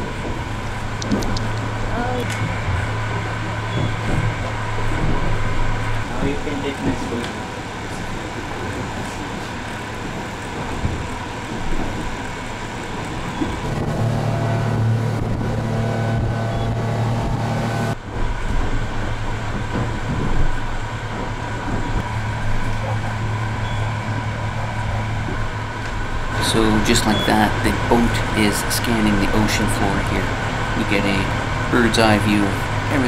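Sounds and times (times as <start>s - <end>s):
boat engine humming: 0.0s - 33.0s
deep drone: 0.0s - 33.0s.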